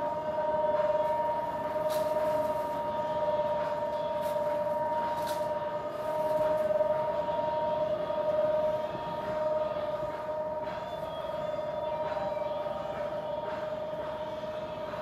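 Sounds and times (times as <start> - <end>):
refrigerated cases humming: 0.0 - 15.0
store background noise: 0.0 - 15.0.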